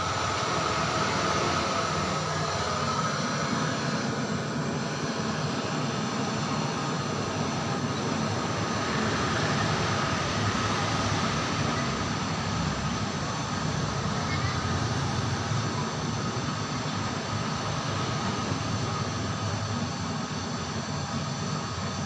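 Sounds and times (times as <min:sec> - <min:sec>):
gas torch flame hissing: 0:00.0 - 0:22.0.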